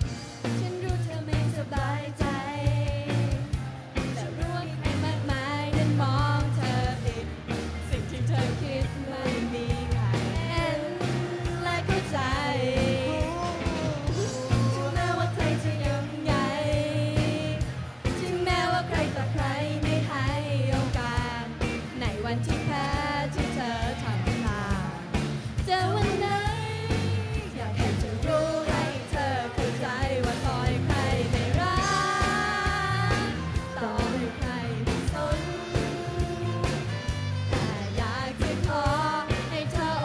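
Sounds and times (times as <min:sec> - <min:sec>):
women singing: 0:00.0 - 0:36.9, 0:37.5 - 0:40.0
electric guitar: 0:00.0 - 0:40.0
steady drum beat: 0:00.0 - 0:40.0.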